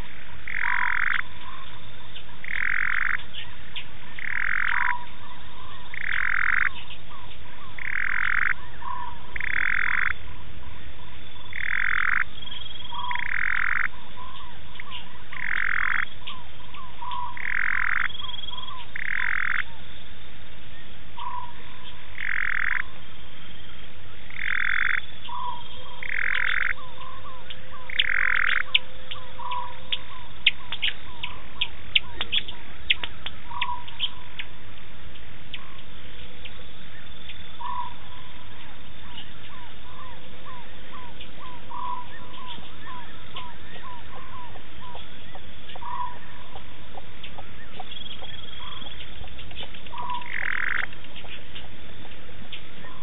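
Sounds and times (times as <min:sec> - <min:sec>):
frog calling: 0:00.0 - 0:34.6, 0:35.4 - 0:53.0.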